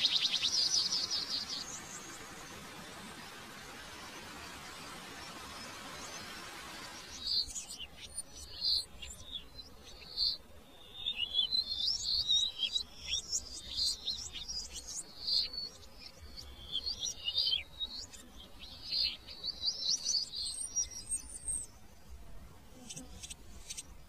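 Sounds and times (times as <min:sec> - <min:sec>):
birds chirping: 0:00.0 - 0:21.8.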